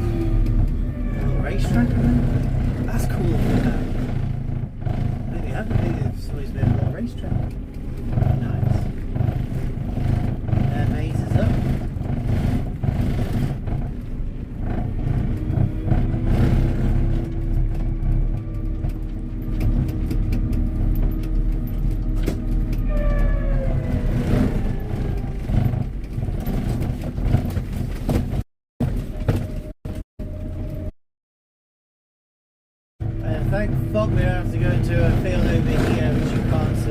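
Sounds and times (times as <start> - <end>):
tractor engine rumble: 0.0 - 30.9, 33.0 - 36.9.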